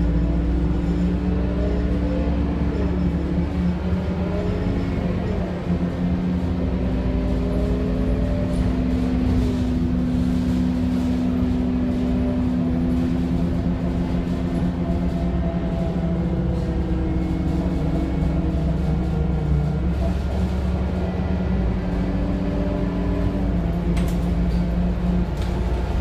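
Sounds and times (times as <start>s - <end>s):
bus diesel engine running: 0.0s - 26.0s.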